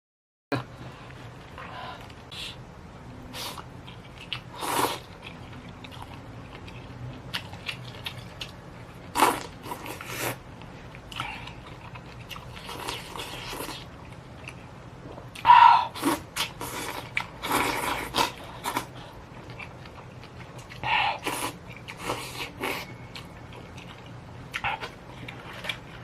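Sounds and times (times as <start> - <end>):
crunchy chewing: 3.4 - 26.0.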